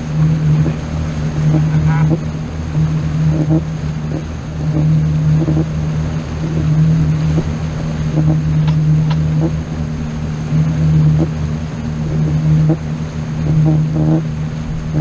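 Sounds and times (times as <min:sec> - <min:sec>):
engine droning steadily: 0:00.0 - 0:15.0
wind noise on microphone: 0:00.0 - 0:15.0.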